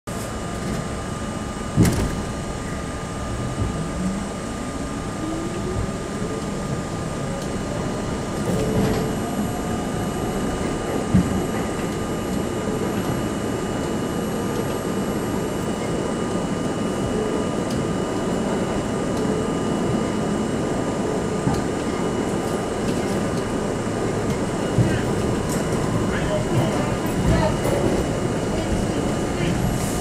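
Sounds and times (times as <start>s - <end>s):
wheels rumbling on rail: 0.1s - 30.0s
train traction motors whining: 0.2s - 30.0s.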